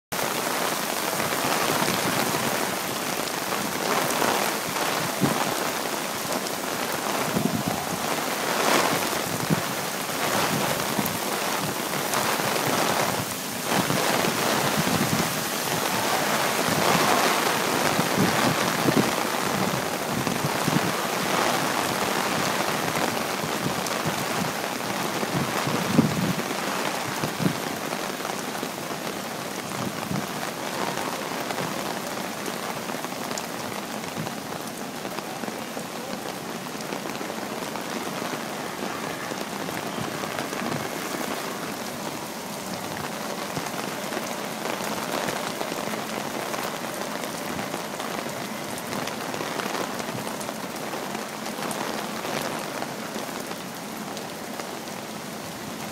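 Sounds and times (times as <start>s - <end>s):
heavy rain on street: 0.0s - 55.9s.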